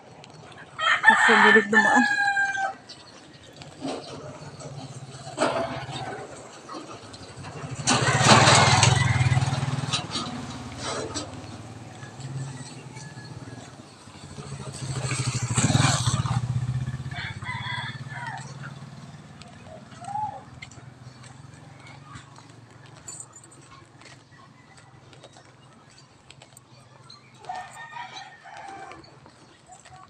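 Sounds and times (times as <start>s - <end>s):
motorcycle passing: 0.2s - 30.0s
motorcycle with sidecar passing: 2.2s - 30.0s.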